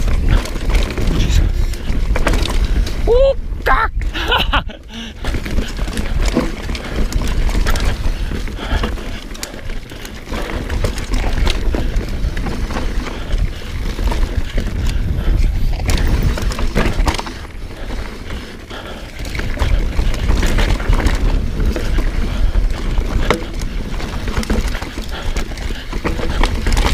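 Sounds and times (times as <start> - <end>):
bike chain and frame rattling: 0.0 - 26.9
wind buffeting microphone: 0.0 - 26.9.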